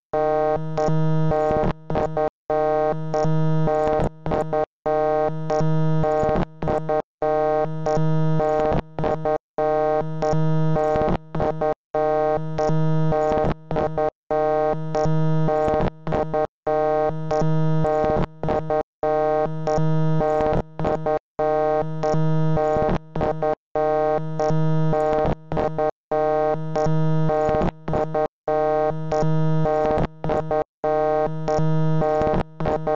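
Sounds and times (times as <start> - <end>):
buzzy electronic tone loop: 0.2 - 32.9.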